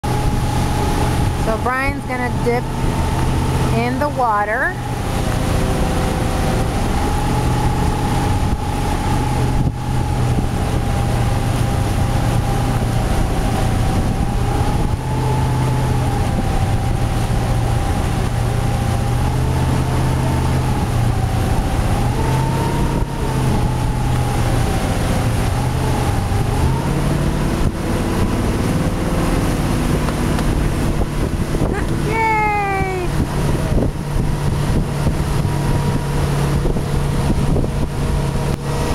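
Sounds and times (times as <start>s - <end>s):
motorboat engine running: 0.0s - 38.9s
wind on microphone: 0.0s - 38.9s.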